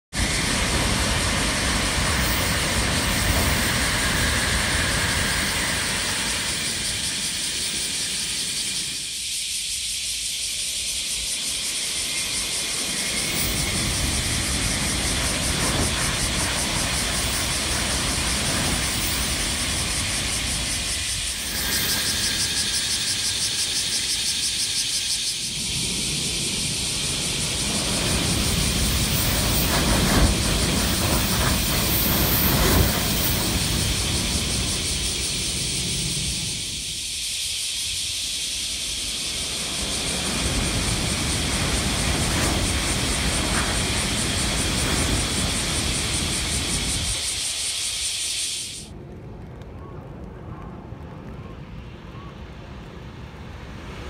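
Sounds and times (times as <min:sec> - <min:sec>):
high-speed trains passing: 0:00.1 - 0:54.0.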